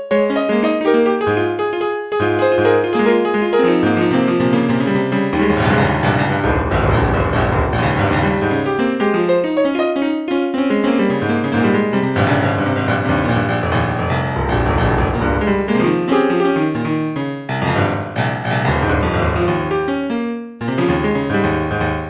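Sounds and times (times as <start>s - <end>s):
piano-led background music: 0.0s - 22.0s.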